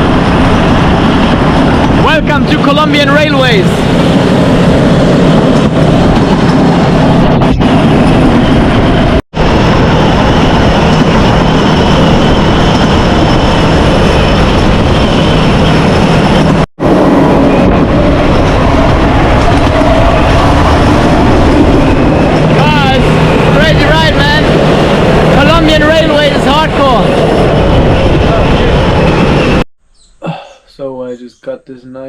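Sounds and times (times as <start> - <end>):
wheels on rails: 0.0 - 29.6.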